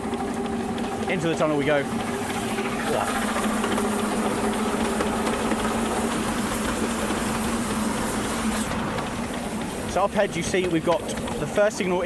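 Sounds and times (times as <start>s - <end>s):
steam train hum: 0.0s - 12.0s
train rattle and hiss: 0.0s - 12.0s.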